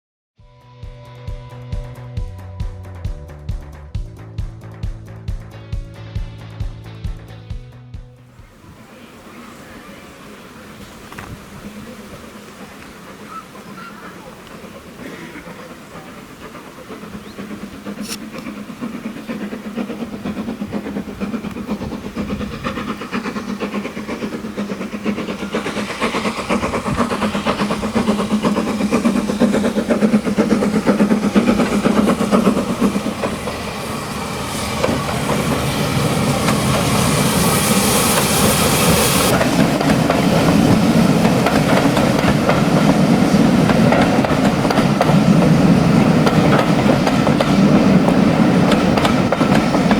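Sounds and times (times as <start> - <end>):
steam locomotive running: 1.0 - 49.9
loud steam hiss: 8.4 - 49.9.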